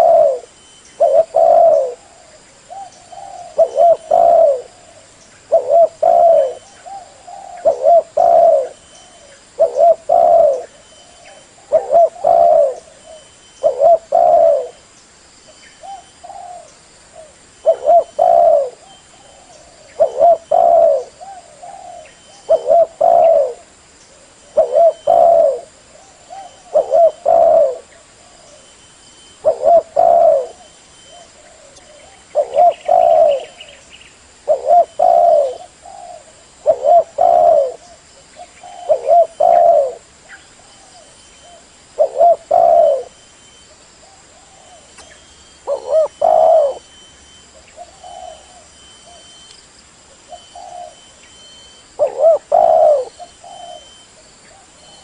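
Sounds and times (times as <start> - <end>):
dove cooing: 0.0 - 14.8, 15.8 - 28.7, 29.3 - 33.8, 34.4 - 43.3, 44.0 - 49.4, 50.1 - 55.0.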